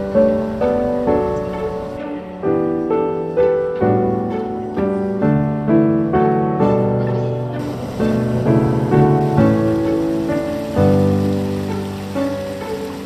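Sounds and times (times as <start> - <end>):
calm piano music: 0.0 - 13.0.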